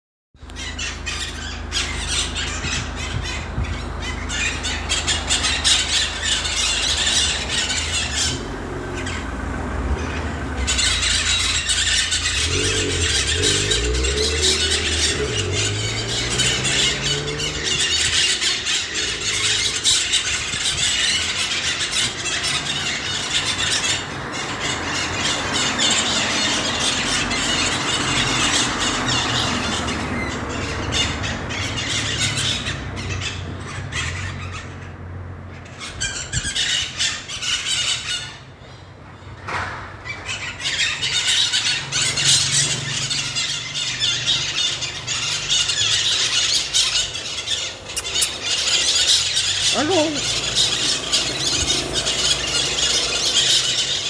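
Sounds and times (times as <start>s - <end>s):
parrots squawking: 0.5s - 38.8s, 40.0s - 54.0s.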